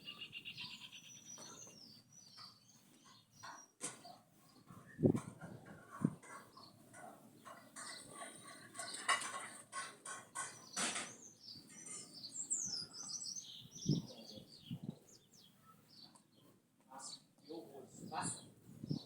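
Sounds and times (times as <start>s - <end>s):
bird chirping: 0.0s - 5.2s, 6.0s - 9.6s, 10.2s - 19.0s.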